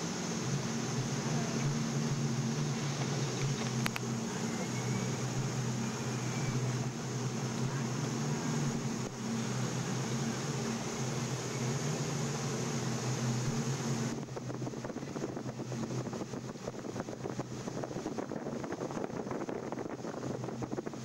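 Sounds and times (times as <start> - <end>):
ship machinery hum: 0.0 - 21.0
wind and sea rushing: 0.0 - 21.0.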